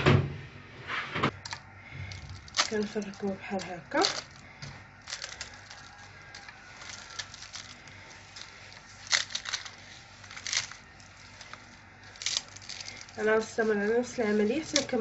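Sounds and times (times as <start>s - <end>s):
loud crunches: 1.3s - 13.5s
flatbread tearing and crackling: 1.4s - 15.0s.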